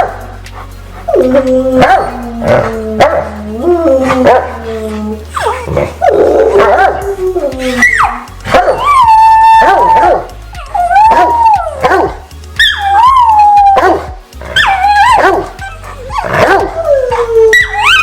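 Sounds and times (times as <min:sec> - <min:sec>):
dogs howling and yipping: 0:00.0 - 0:18.0.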